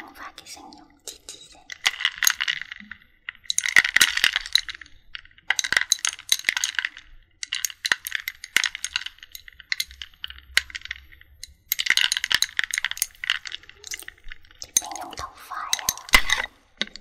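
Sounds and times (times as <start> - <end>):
ice cubes crackling and clinking: 0.1 - 17.0.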